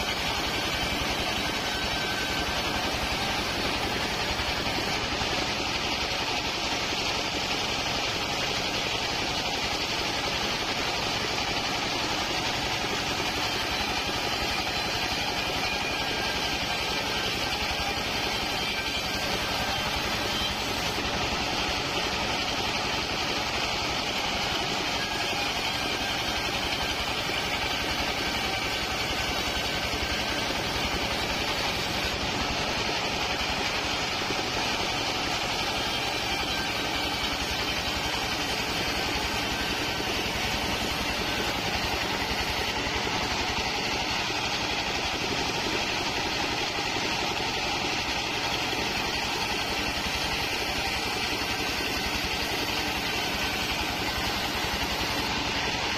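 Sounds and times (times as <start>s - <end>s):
bandsaw cutting wood: 0.0s - 55.9s.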